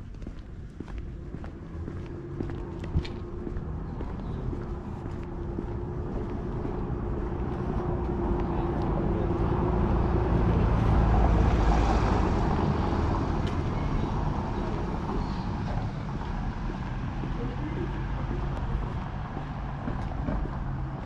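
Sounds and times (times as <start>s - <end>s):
motor vehicle passing: 1.0s - 21.0s.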